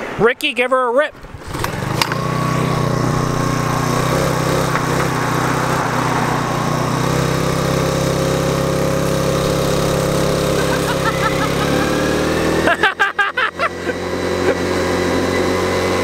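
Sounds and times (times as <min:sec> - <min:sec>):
small engine running: 0:01.3 - 0:16.0
thin whine: 0:01.6 - 0:16.0.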